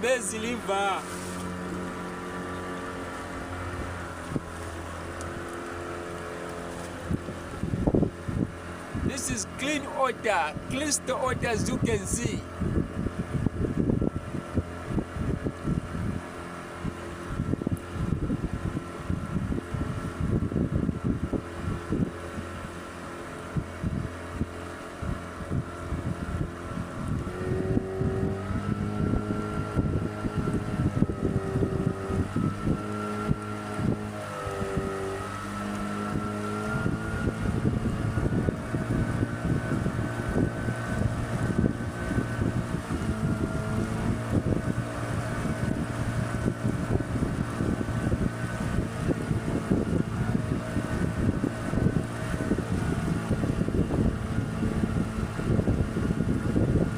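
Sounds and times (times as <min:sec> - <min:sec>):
motorboat engine running: 0:00.0 - 0:56.9
wind buffeting microphone: 0:00.0 - 0:56.9.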